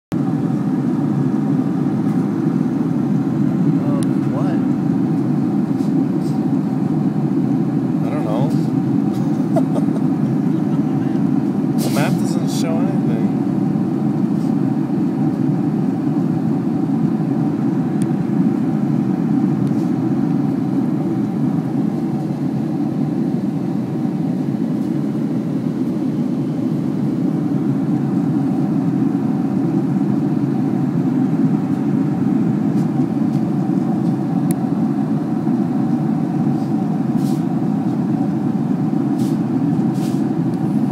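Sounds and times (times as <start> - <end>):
jet engine cabin rumble: 0.1 - 40.9.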